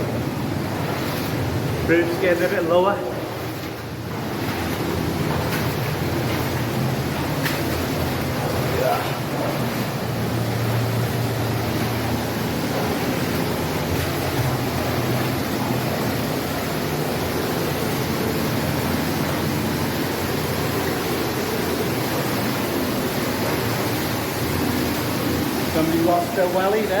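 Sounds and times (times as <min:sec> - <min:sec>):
underground waterfall rushing: 0:00.0 - 0:27.0.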